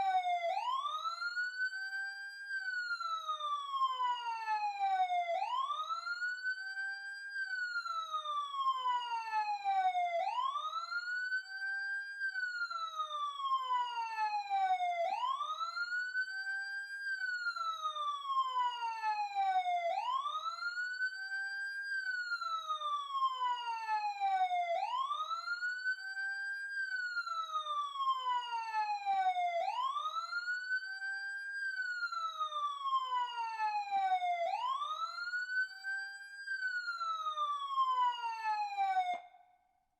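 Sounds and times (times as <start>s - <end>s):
emergency siren wailing: 0.0s - 39.4s.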